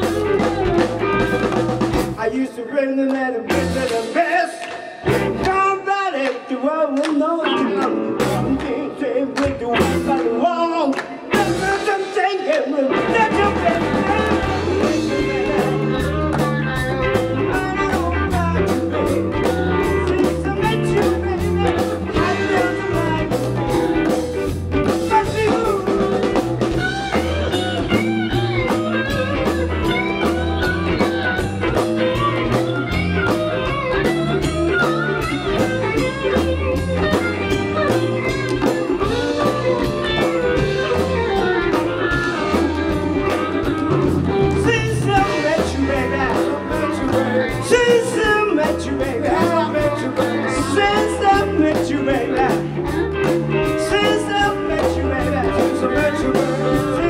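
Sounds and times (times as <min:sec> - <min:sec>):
lead guitar bending notes: 0:00.0 - 0:02.2, 0:12.9 - 0:57.0
drum kit with cymbal hits: 0:00.0 - 0:02.3, 0:11.3 - 0:57.0
electric bass: 0:00.0 - 0:02.3, 0:05.0 - 0:05.7, 0:07.6 - 0:08.8, 0:11.3 - 0:11.9, 0:12.9 - 0:57.0
electric guitars: 0:00.0 - 0:57.0.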